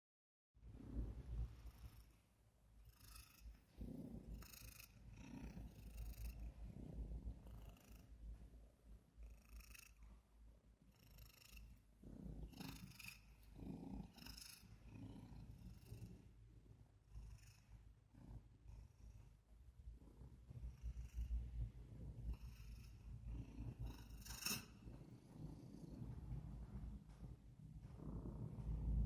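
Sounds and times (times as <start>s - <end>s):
cat purring: 0.7s - 29.0s.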